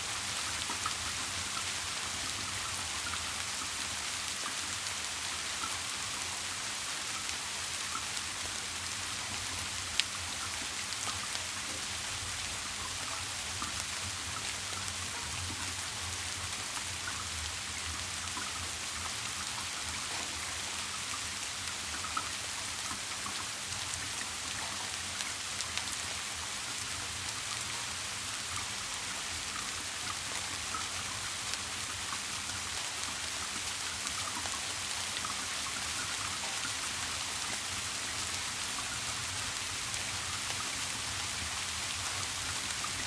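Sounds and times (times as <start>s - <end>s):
raindrops ticking: 0.0s - 43.0s
steady rain: 0.0s - 43.0s.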